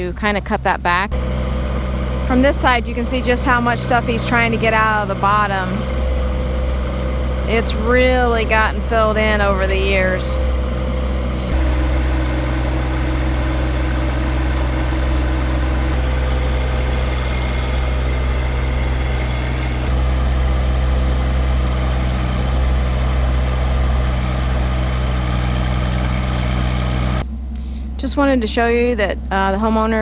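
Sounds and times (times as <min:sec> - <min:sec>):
tractor diesel engine humming: 0:00.0 - 0:30.0.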